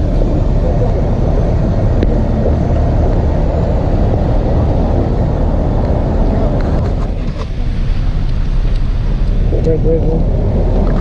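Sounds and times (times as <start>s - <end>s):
cars passing rumble: 0.0s - 11.0s.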